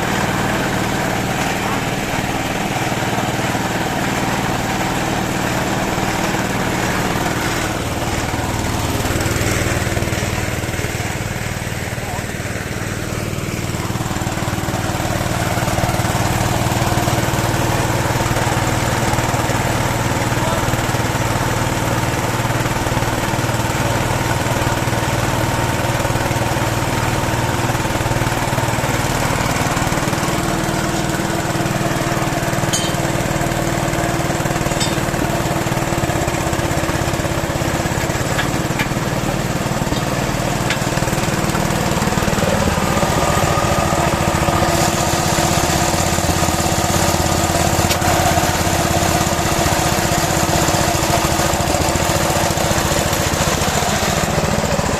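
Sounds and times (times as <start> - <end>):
small pump engine running: 0.0 - 54.9.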